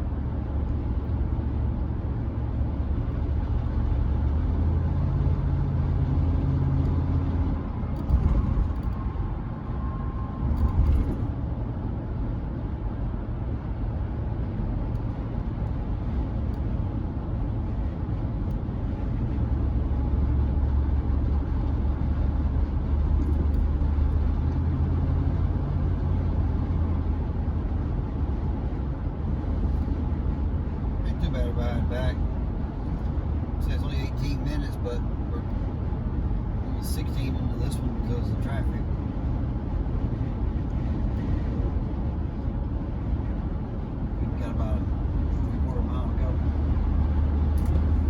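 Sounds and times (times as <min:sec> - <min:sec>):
pickup truck engine and road drone: 0:00.0 - 0:48.0.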